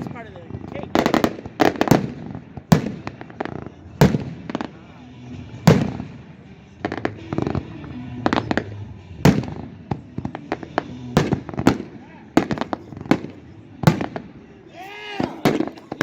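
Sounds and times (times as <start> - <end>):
fireworks bangs: 0.0 - 14.6, 15.2 - 16.0.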